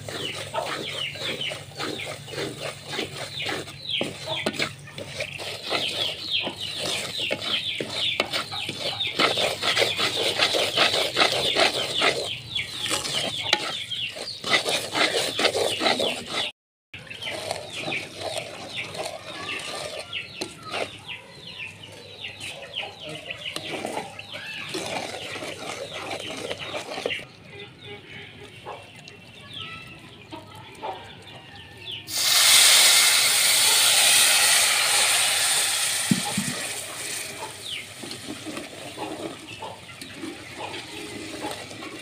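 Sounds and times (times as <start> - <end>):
chickens cheeping and clucking: 0.0 - 32.1, 35.7 - 42.0.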